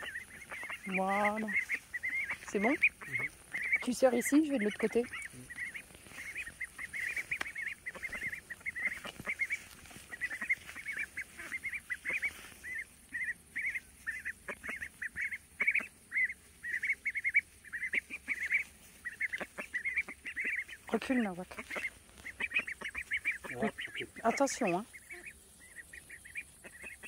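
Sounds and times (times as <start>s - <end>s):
ducks calling: 0.0s - 27.0s.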